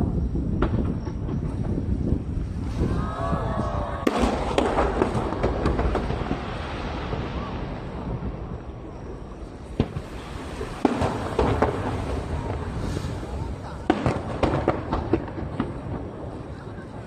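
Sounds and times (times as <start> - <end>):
fireworks bangs and crackles: 0.0 - 17.0
wind on microphone: 0.0 - 17.0.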